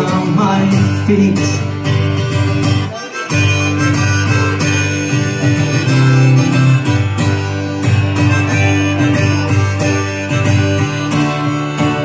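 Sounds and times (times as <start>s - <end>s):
acoustic guitar strumming: 0.0s - 12.0s
harmonica sustained notes: 0.0s - 12.0s.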